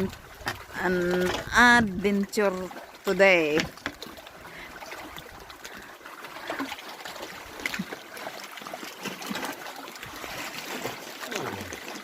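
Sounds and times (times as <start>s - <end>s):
water lapping around a kayak: 0.0s - 12.0s.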